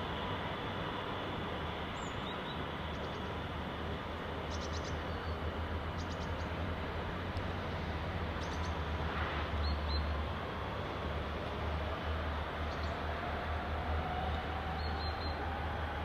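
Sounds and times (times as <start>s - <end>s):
train humming on rails: 0.0s - 16.0s.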